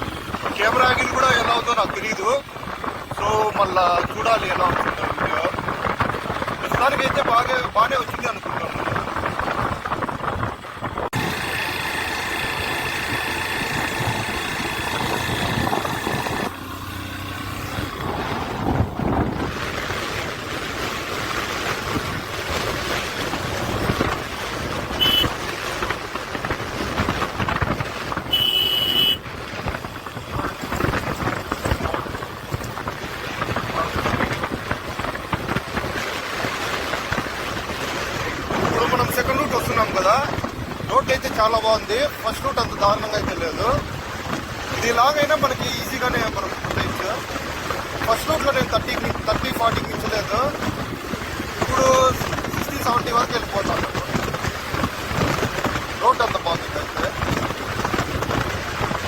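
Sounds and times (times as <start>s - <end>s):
wind and road noise: 0.0s - 59.0s
motorcycle engine: 9.0s - 41.6s, 43.8s - 59.0s.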